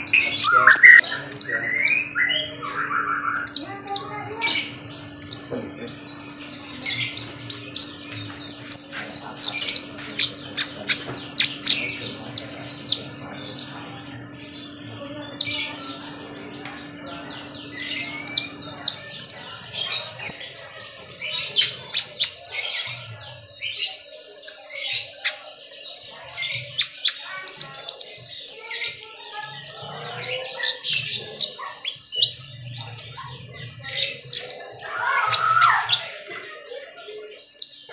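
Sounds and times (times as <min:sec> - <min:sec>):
sunbird chirping and trilling: 0:00.0 - 0:37.9.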